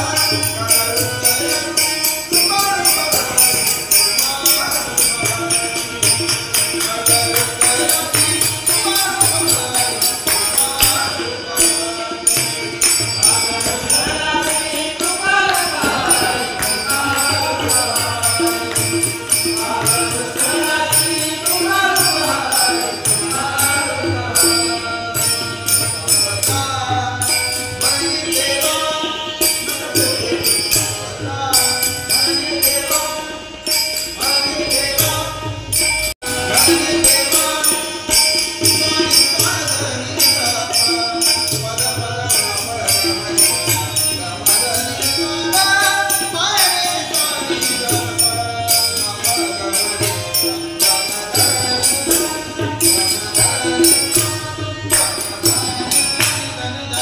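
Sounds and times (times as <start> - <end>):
harmonium: 0.0 - 57.0
man singing devotional song: 0.0 - 57.0
small hand cymbals: 0.0 - 57.0
tabla beat: 0.0 - 57.0.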